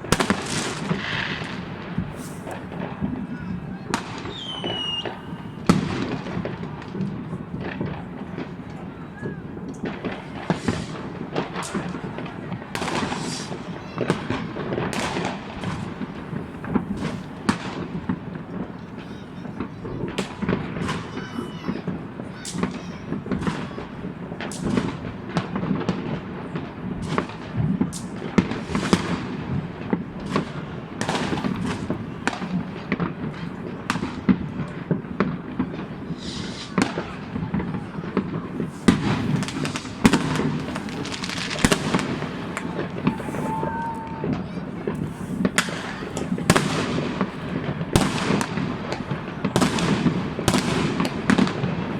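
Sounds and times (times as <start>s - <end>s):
rumble of distant explosions: 0.0s - 18.8s, 23.1s - 51.9s
firework crackling: 0.0s - 51.9s
fireworks cracking and banging: 0.0s - 51.9s.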